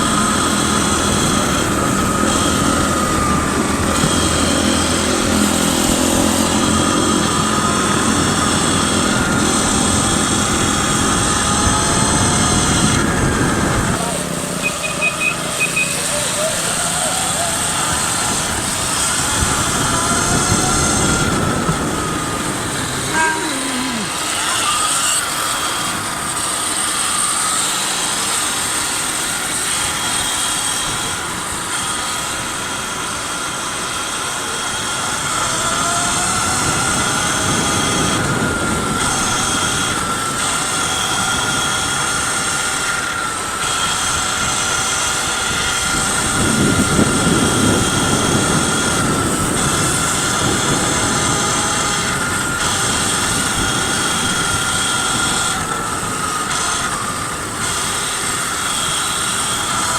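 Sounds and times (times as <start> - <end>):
electric motor whining: 0.0 - 59.9
wind on microphone: 0.0 - 59.9.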